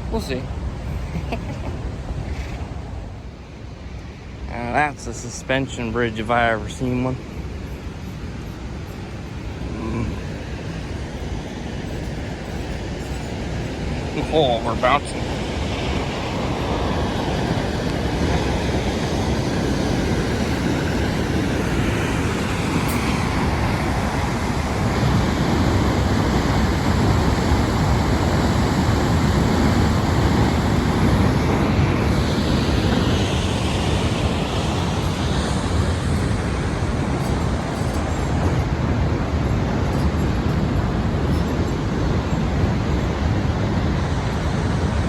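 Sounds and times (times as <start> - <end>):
fast river rushing: 0.0 - 45.0
waterfall roaring: 0.0 - 45.0.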